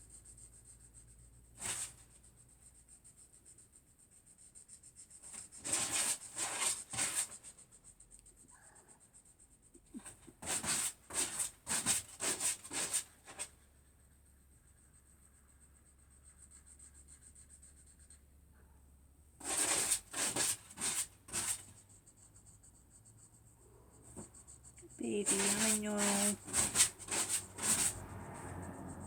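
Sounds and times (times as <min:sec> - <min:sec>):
colouring strokes on paper: 0:00.0 - 0:13.5, 0:16.0 - 0:18.3, 0:19.4 - 0:29.0.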